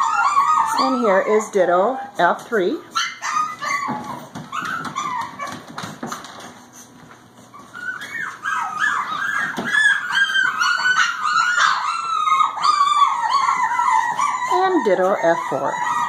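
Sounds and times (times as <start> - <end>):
puppies whining and yipping: 0.0 - 16.0.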